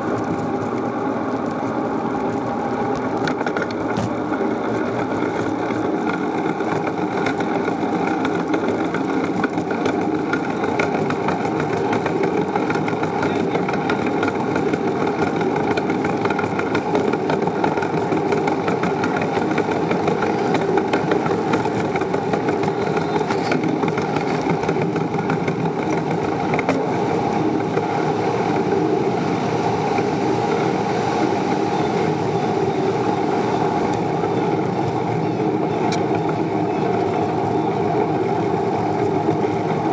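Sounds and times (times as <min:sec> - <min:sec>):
bicycle tyre and road rumble: 0:00.0 - 0:39.9.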